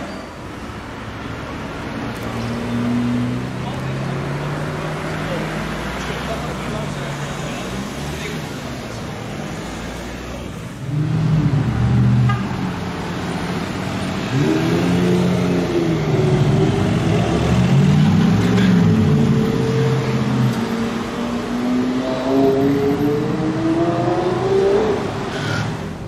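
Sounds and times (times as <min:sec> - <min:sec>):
sports car engines revving: 0:00.9 - 0:26.0.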